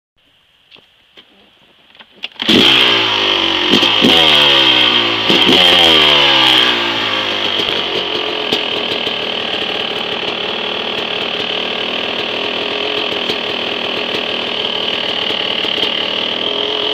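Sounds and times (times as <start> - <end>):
dirt bike engine revving: 2.3 - 16.9.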